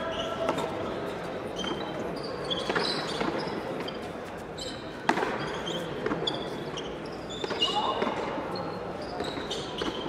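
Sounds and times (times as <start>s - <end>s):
shoes squeaking: 0.0s - 10.0s.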